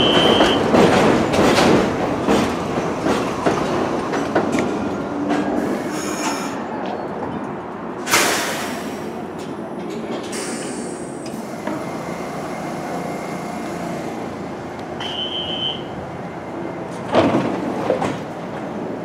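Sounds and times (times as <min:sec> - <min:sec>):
subway train running hum: 0:00.0 - 0:19.0.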